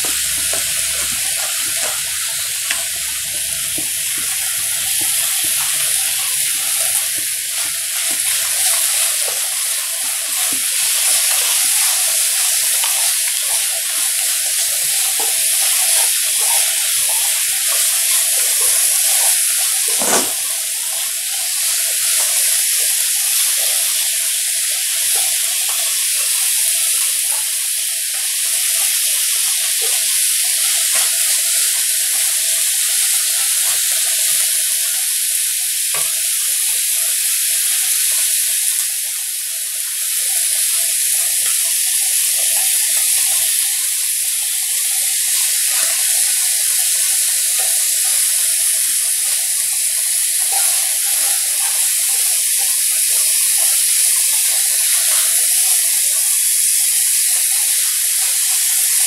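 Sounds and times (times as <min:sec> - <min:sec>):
meat sizzling on a griddle: 0:00.0 - 0:59.0.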